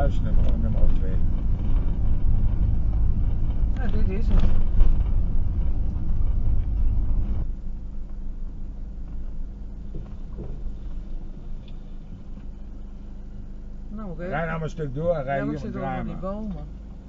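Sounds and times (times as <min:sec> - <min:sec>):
vehicle engine and tyre noise: 0:00.0 - 0:17.0.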